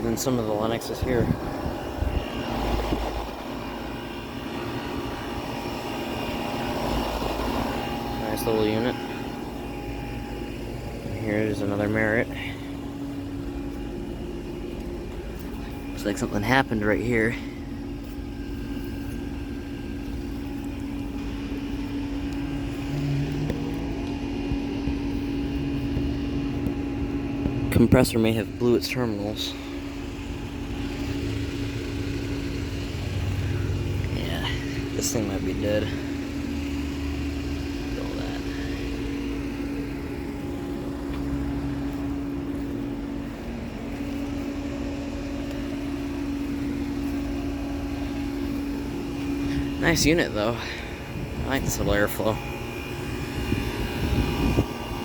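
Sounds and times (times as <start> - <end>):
air conditioner units humming: 0.0 - 55.0
low tone: 0.0 - 55.0.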